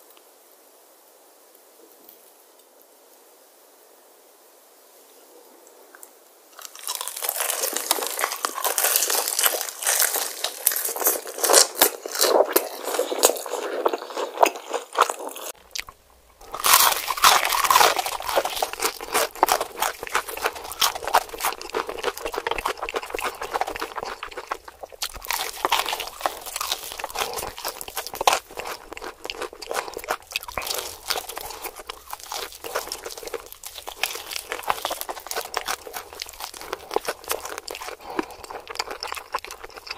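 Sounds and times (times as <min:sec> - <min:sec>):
crunching fried chicken: 0:06.5 - 0:39.9.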